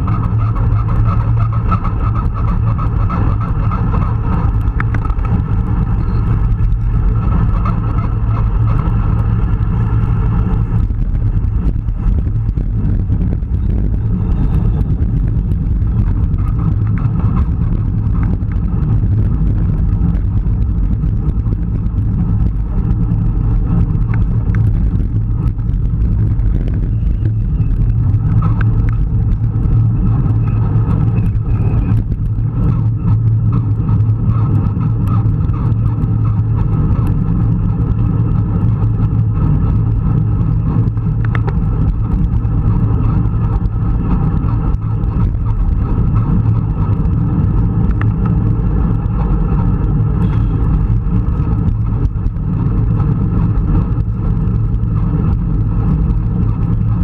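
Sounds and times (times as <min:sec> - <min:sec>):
road noise from bike: 0:00.0 - 0:57.0
wind rush on microphone: 0:00.0 - 0:57.0.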